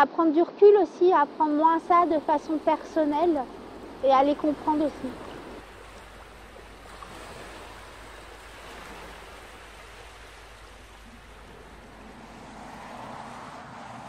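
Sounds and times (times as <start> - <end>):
sea surf breaking on beach: 1.2 - 14.0.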